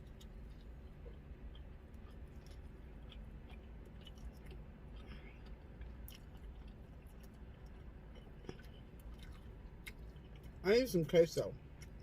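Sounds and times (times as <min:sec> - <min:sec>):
person chewing food: 0:00.0 - 0:10.6, 0:11.6 - 0:12.0
steady low hum: 0:00.0 - 0:12.0.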